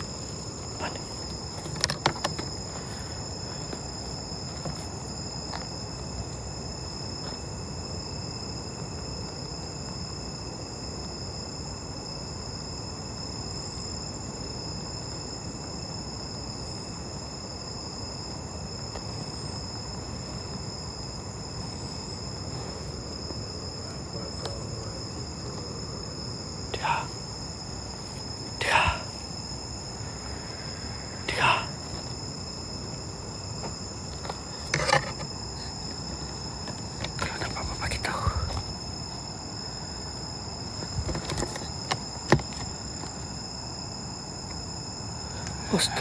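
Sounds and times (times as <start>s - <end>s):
crickets chirring: 0.0s - 46.0s
low background hiss: 0.0s - 46.0s.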